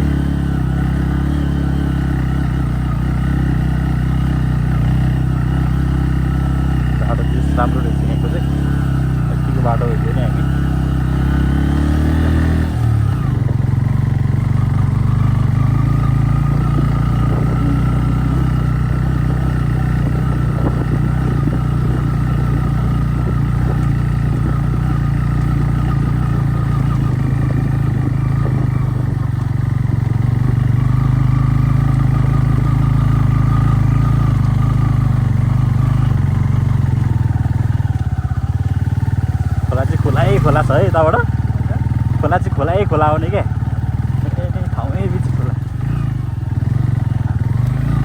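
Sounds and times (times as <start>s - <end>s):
motorcycle engine droning: 0.0s - 48.0s.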